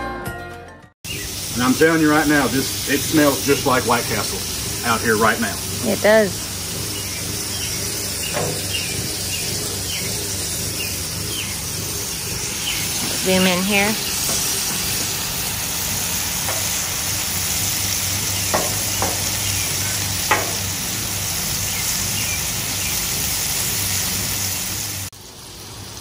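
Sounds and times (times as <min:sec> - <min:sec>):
meat and onions sizzling on griddle: 0:01.0 - 0:26.0.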